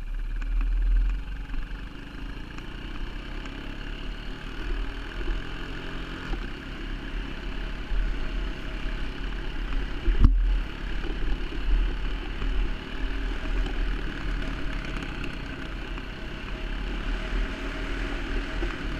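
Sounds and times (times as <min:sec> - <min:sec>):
dirt bike engine running: 0:00.0 - 0:18.9.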